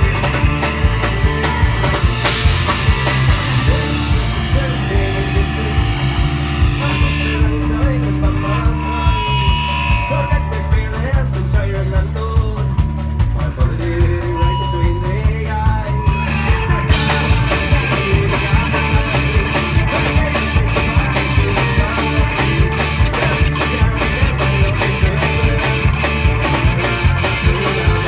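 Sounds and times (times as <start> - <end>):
live folk-punk band playing: 0.0 - 28.0.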